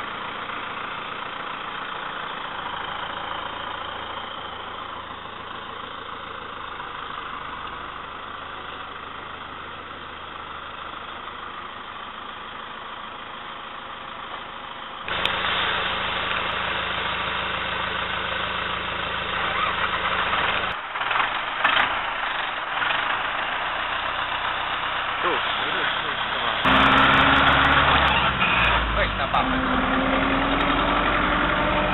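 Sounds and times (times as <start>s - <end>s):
tractor diesel engine idling: 0.0s - 31.9s.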